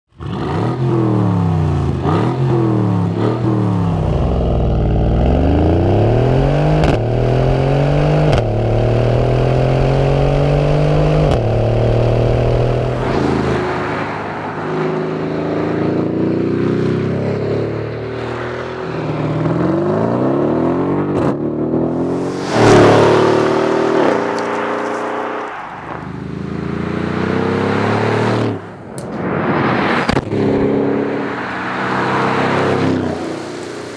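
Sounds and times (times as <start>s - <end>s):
car accelerating hard with upshifts: 0.1s - 14.1s, 15.1s - 28.6s
car engine revving: 0.2s - 33.9s.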